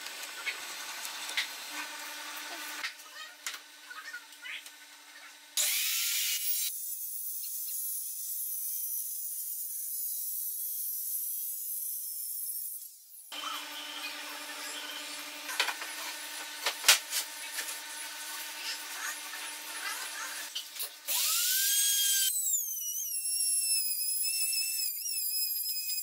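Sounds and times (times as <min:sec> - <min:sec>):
circular saw cutting wood: 0:00.4 - 0:04.2, 0:05.2 - 0:26.0.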